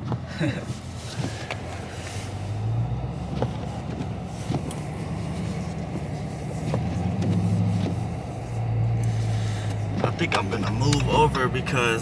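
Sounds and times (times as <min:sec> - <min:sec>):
car engine running inside cabin: 0:00.0 - 0:12.0.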